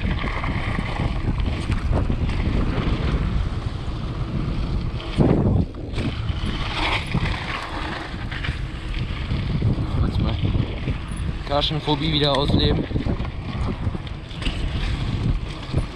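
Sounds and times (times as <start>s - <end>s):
bike tyres crunching on dirt: 0.0s - 15.9s
wind buffeting microphone: 0.0s - 15.9s.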